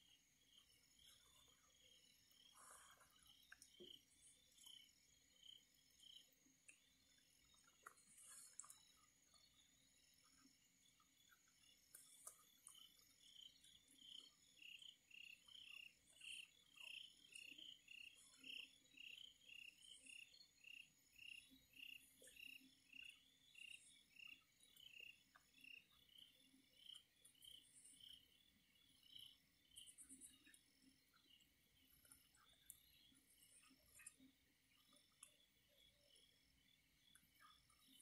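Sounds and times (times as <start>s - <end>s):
night insects chirping: 0.0s - 38.0s.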